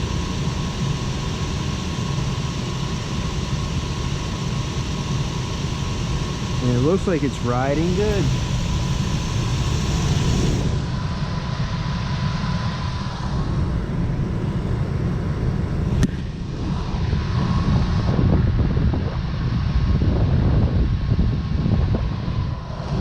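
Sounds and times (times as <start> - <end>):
blower running: 0.0 - 23.0.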